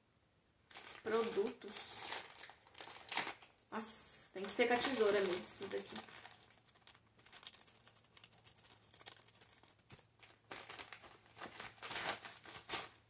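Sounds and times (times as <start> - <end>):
plastic mailer bag crinkling: 0.7 - 13.0.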